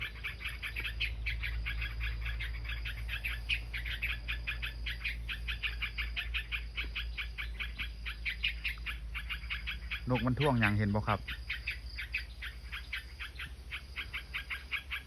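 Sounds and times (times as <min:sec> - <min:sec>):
small bird alarm calls: 0:00.0 - 0:15.0.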